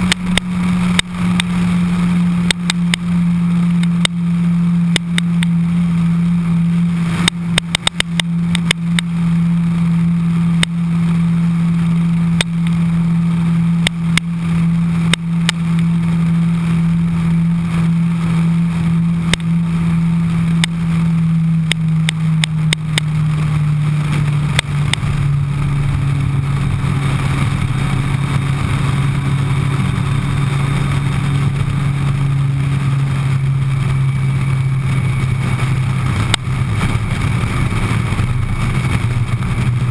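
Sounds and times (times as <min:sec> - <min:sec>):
motorcycle engine cruising: 0:00.0 - 0:39.9
sharp exhaust crackles: 0:00.0 - 0:39.9.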